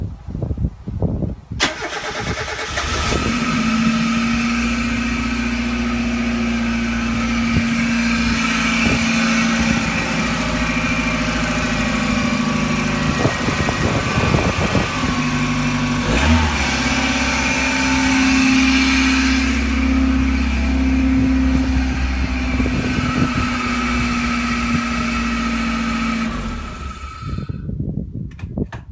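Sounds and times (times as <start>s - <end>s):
car engine whirring and grinding: 1.6s - 27.8s
deeper hum: 3.2s - 27.7s.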